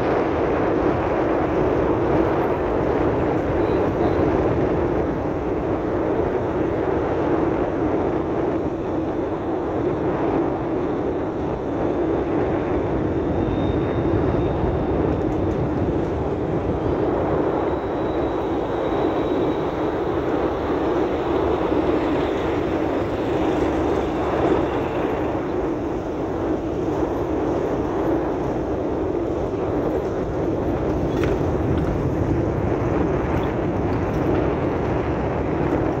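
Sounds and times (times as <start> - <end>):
in-cabin road noise on dirt road: 0.0 - 36.0.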